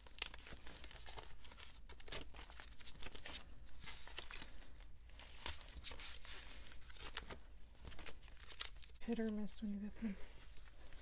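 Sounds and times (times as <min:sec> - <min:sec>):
plastic sleeves rustling: 0:00.0 - 0:11.0.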